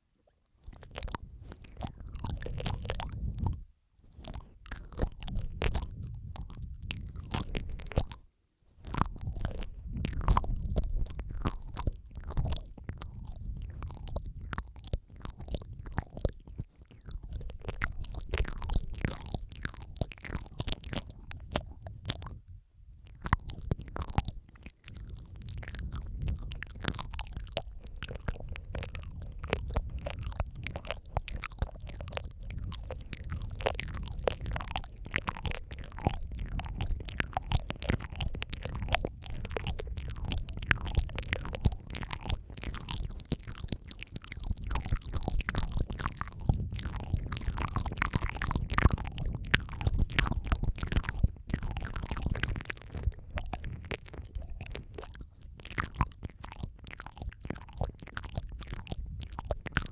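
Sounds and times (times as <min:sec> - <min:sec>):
wet mouth clicks and smacks: 0:00.0 - 0:59.9.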